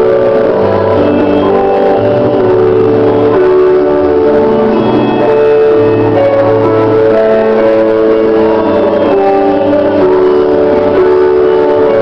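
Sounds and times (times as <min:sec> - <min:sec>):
worship band keyboard chords: 0:00.0 - 0:12.0.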